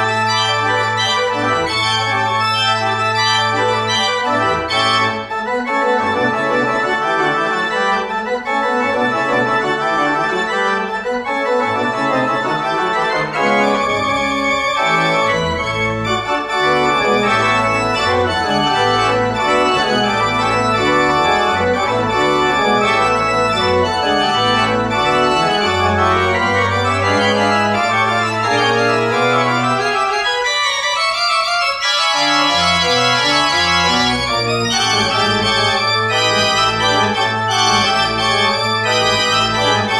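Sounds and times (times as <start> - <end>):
church organ playing: 0.0 - 39.9.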